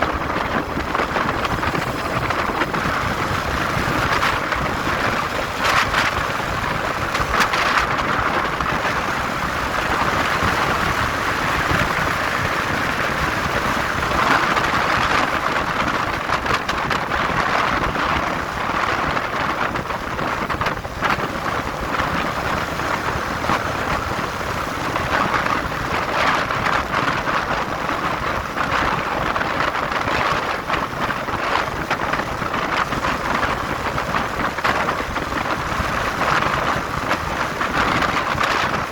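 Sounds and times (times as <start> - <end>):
motorcycle engine: 0.0 - 38.9
road noise: 0.0 - 38.9
wind rushing over microphone: 0.0 - 38.9.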